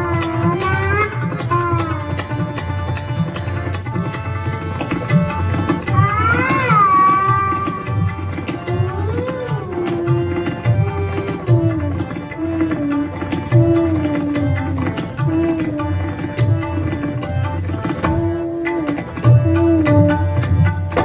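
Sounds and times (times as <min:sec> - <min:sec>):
tabla strokes: 0:00.0 - 0:21.0.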